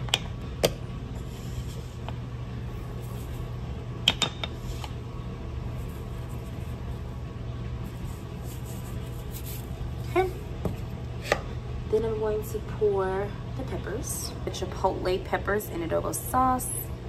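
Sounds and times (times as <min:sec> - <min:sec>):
dishwasher humming: 0:00.0 - 0:17.0.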